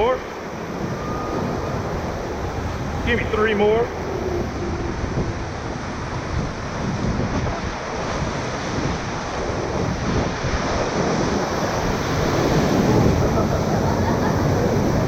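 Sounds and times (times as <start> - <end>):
whitewater rapids rushing: 0.0 - 15.0
wind buffeting microphone: 0.0 - 15.0.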